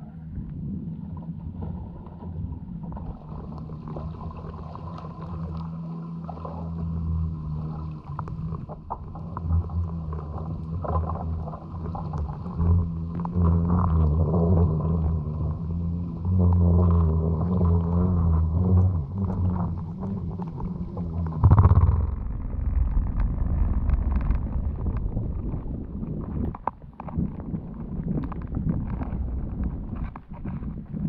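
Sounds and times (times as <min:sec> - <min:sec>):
low underwater droning hum: 0:00.0 - 0:31.0.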